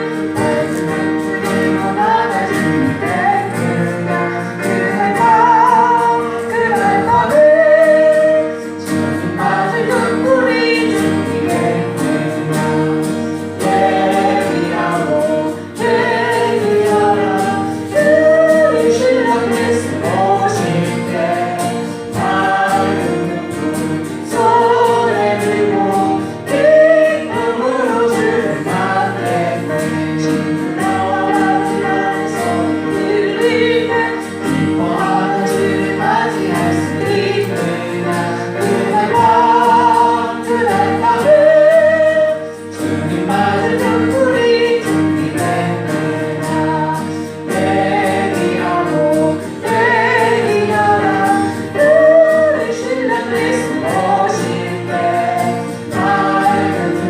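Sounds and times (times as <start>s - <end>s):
group singing a hymn: 0.0s - 57.0s
held accompaniment: 0.0s - 57.0s.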